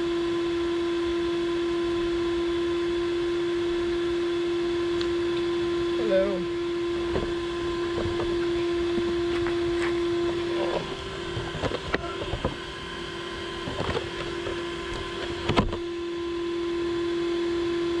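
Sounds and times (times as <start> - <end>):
electronic whine: 0.0 - 18.0.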